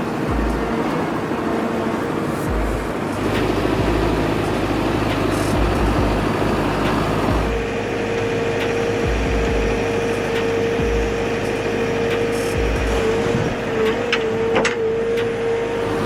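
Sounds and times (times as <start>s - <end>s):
engine-driven machinery running: 0.0s - 16.0s
high-pitched whine: 0.0s - 16.0s.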